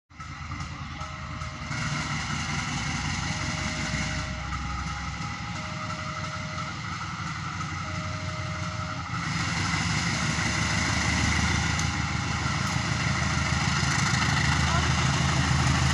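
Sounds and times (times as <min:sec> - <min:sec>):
diesel locomotive engine running: 0:00.1 - 0:15.9.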